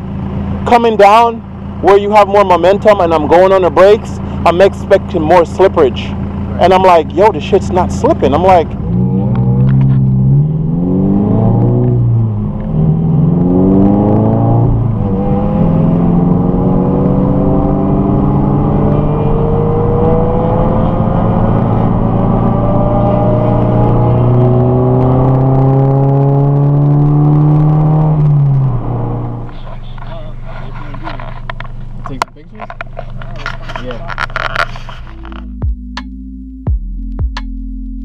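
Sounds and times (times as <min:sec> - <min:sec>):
car engine accelerating with upshifts: 0:00.0 - 0:36.0.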